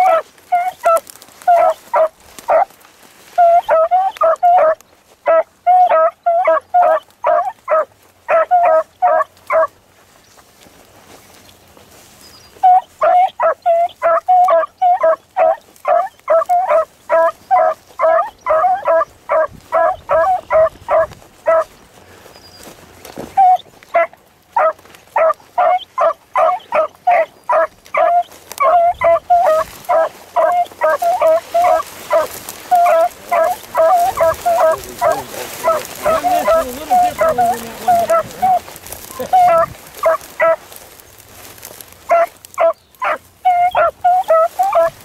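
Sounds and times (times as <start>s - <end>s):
hounds baying: 0.0s - 9.8s, 12.2s - 40.8s, 41.6s - 45.0s.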